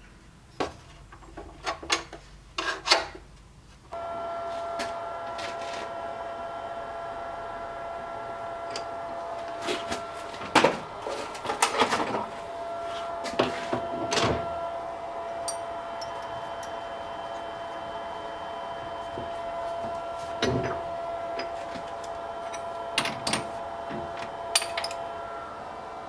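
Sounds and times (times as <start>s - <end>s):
steady hum: 3.9s - 26.0s.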